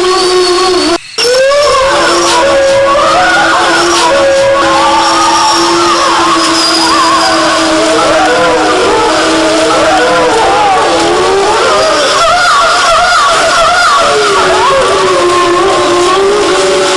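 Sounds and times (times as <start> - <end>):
wolves yipping: 0.7 - 16.9
wolves howling in chorus: 1.2 - 16.9.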